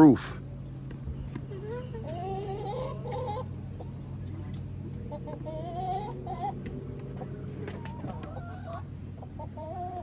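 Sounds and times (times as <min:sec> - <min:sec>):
steady low hum: 0:00.0 - 0:10.0
chickens clucking: 0:00.5 - 0:10.0.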